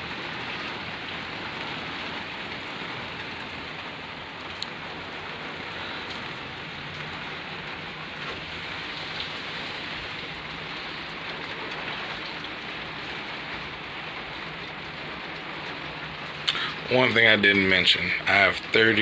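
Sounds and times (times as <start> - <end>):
rain on a truck roof: 0.0 - 19.0.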